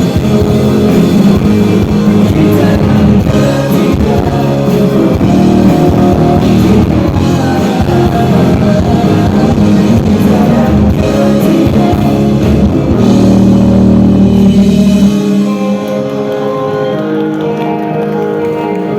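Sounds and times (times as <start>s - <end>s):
held guitar chords ringing: 0.0s - 18.9s
live rock band: 0.0s - 18.9s.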